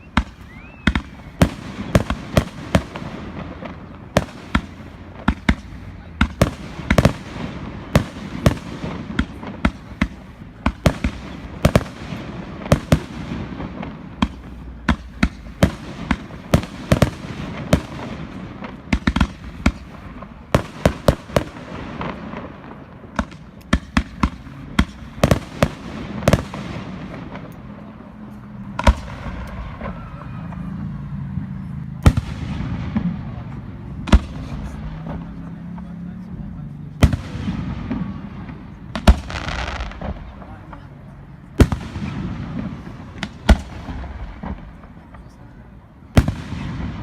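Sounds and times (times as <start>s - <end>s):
firework bangs: 0.0s - 47.0s
fireworks rumble and crackle: 0.0s - 47.0s.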